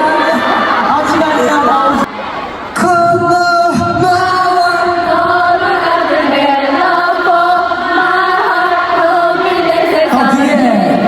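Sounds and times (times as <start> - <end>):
crowd singing in unison: 0.0 - 11.0.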